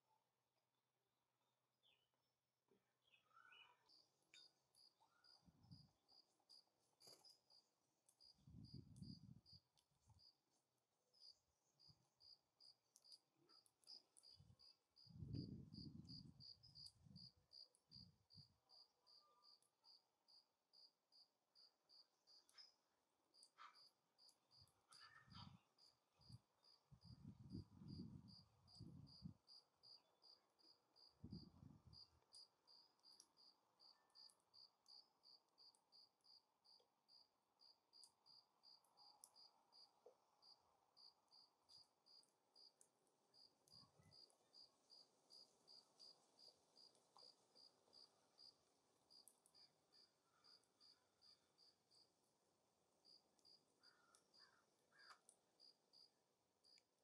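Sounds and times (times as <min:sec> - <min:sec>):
cricket chirping: 0:03.3 - 0:09.6, 0:11.1 - 0:22.8, 0:23.4 - 0:52.2, 0:53.0 - 0:56.8.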